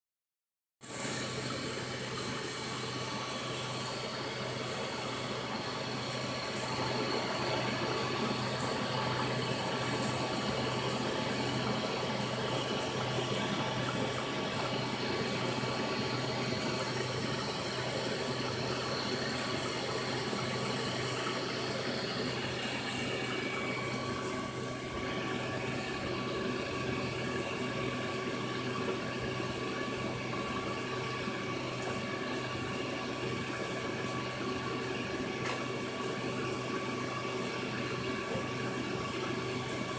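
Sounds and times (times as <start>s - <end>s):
low pump hum: 0.8s - 39.9s
water splashing into tank: 0.8s - 39.9s.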